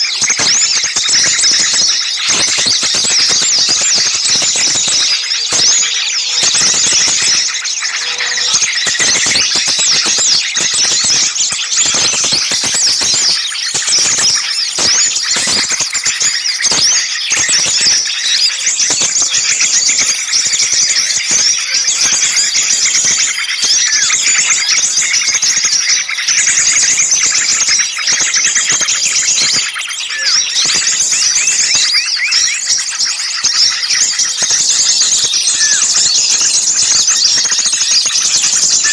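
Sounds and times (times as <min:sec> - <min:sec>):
songbirds chirping and scolding: 0:00.0 - 0:38.9.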